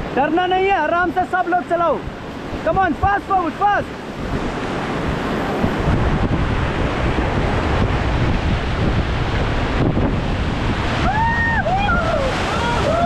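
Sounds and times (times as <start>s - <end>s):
whitewater rushing and crashing: 0.0s - 13.0s
wind buffeting microphone: 1.9s - 13.0s.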